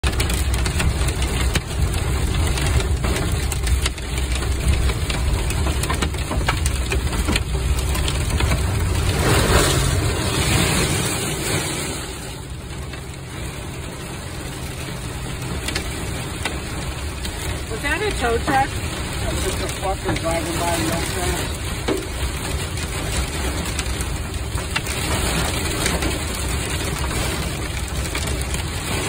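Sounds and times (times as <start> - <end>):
engine and road rumble: 0.0 - 29.0
hail clattering on vehicle: 0.0 - 29.0.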